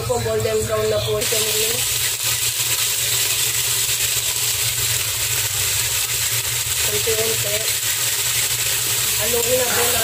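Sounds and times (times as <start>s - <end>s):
chicken wings sizzling in oil: 0.0s - 10.0s.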